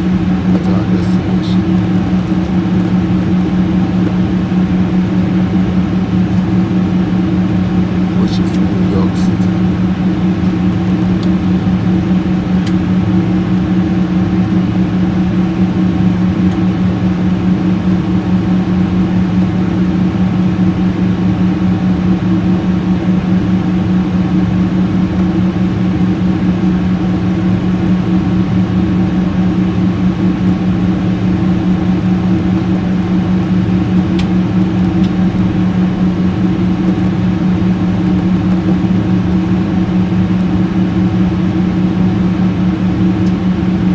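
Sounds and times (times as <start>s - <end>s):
constant low hum: 0.0s - 43.9s
jet engine and airflow drone: 0.0s - 43.9s.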